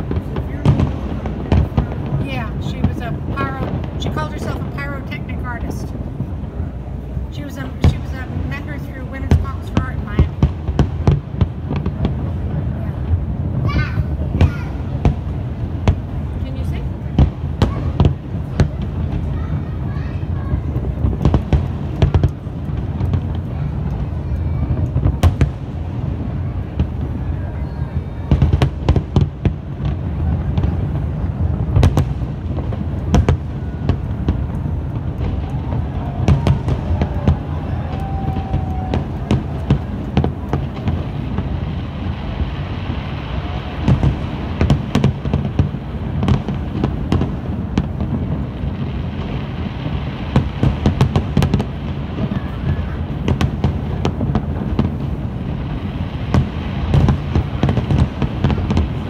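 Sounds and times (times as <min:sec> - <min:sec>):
fireworks bangs and crackles: 0:00.0 - 0:59.0
fireworks booming: 0:00.0 - 0:59.0.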